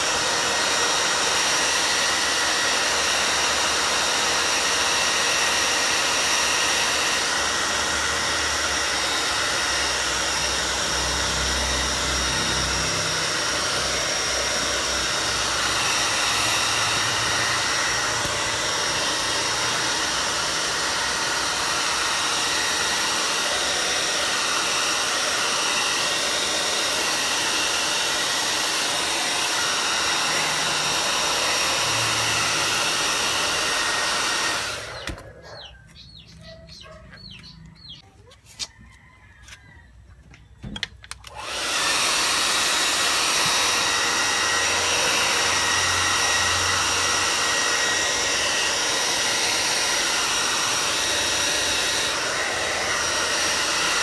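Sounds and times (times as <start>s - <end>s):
hair dryer blowing: 0.0s - 38.0s, 41.1s - 54.0s.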